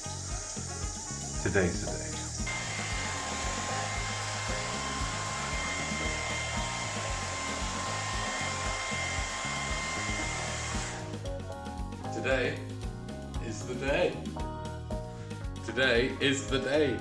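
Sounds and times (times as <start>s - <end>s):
blower rushing noise: 0.0s - 14.4s
background music with low beat: 0.0s - 17.0s.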